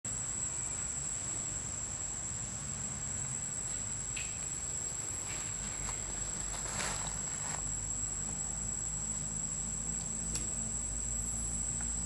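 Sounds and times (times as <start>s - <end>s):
insects droning: 0.1s - 12.0s.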